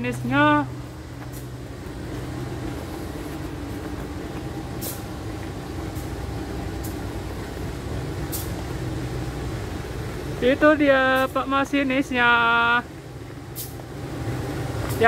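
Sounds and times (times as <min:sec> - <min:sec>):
locomotive idling: 0:00.0 - 0:15.0.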